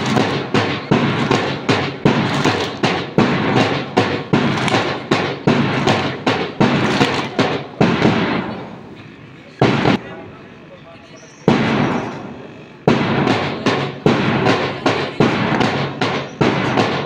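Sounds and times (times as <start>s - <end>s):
drum beat: 0.0s - 8.8s, 9.6s - 10.0s, 11.5s - 12.1s, 12.9s - 17.0s.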